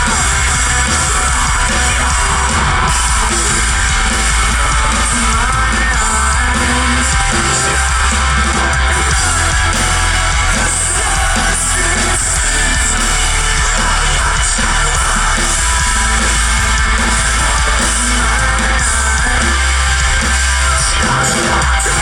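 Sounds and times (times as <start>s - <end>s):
bass: 0.0s - 22.0s
distorted electric guitars: 0.0s - 22.0s
drums: 0.0s - 22.0s
vocals: 0.0s - 22.0s.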